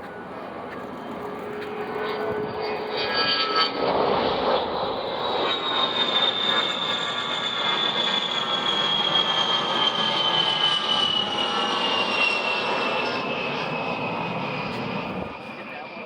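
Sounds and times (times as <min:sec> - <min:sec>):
jet aircraft flying past: 0:00.0 - 0:16.0.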